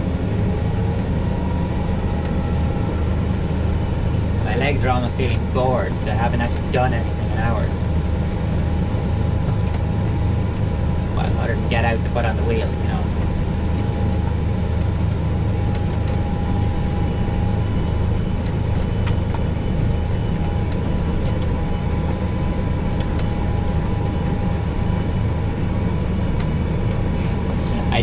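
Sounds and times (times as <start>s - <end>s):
faint steady whine: 0.0s - 28.0s
tractor engine drone: 0.0s - 28.0s.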